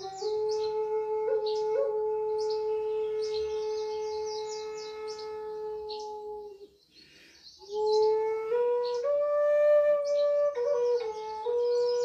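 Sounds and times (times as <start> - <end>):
flute playing long low note: 0.0 - 6.7, 7.6 - 12.0.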